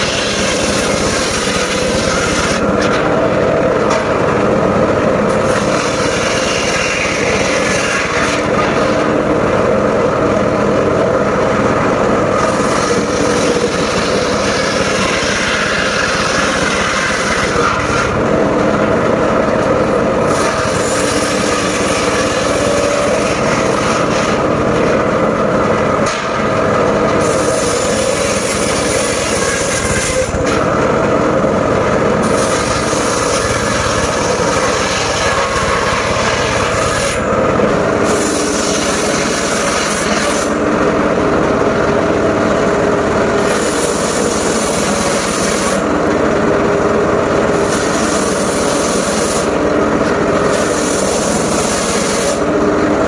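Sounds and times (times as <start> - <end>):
circular sawmill engine hum: 0.0 - 53.0.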